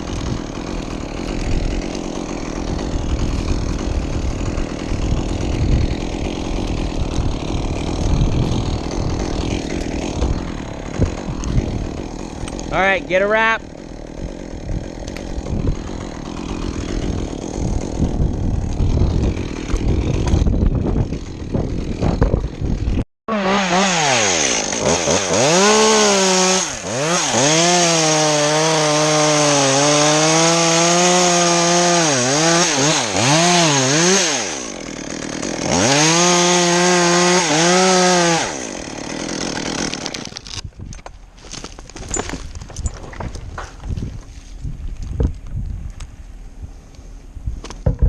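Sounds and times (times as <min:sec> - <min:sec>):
chainsaw cutting wood: 0:00.0 - 0:45.5, 0:47.6 - 0:48.0.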